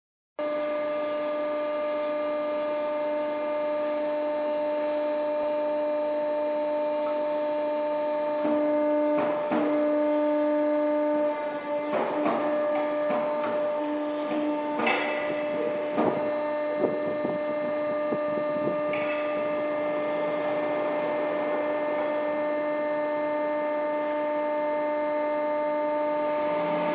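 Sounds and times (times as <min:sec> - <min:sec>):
hydraulic pump motor humming: 0:00.4 - 0:26.9.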